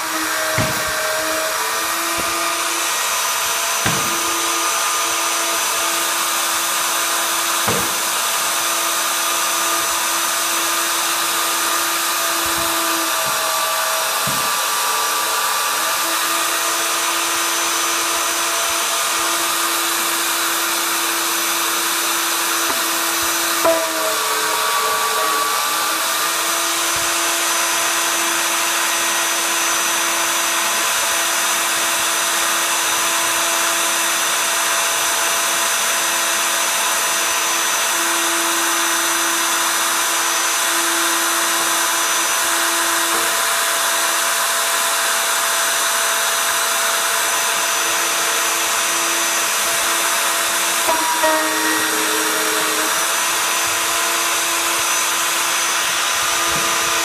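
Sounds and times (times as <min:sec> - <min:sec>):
router cutting into wood: 0:00.0 - 0:57.0.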